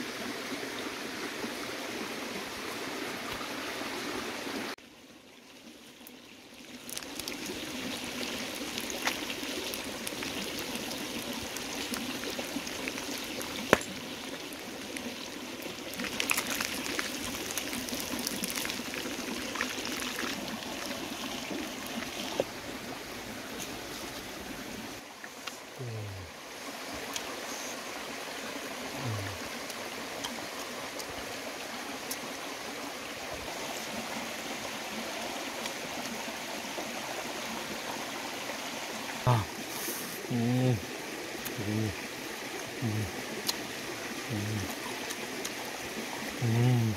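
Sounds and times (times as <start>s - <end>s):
stream rushing: 0.0s - 4.8s, 6.5s - 46.9s.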